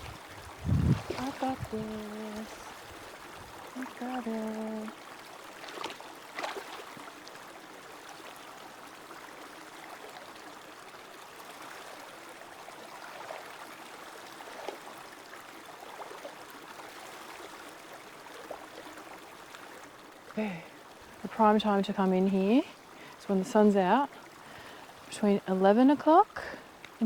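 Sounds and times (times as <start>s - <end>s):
river water flowing over rocks: 0.0s - 25.3s.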